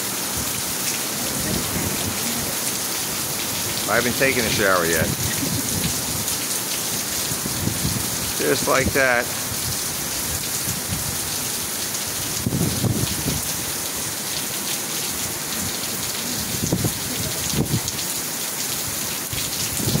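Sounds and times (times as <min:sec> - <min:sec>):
heavy rain on pavement: 0:00.0 - 0:20.0.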